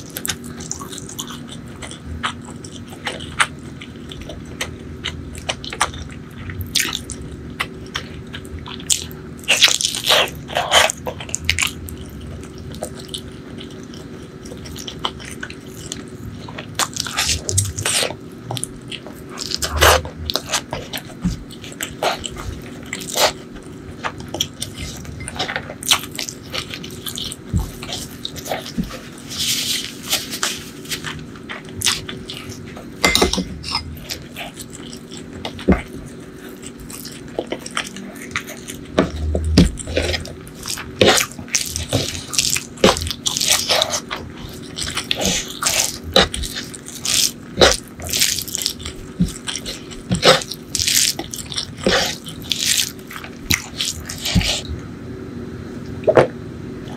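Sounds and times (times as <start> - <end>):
fingers mixing rice and curry: 0.0 - 54.7
chewing and mouth smacks: 0.0 - 54.8.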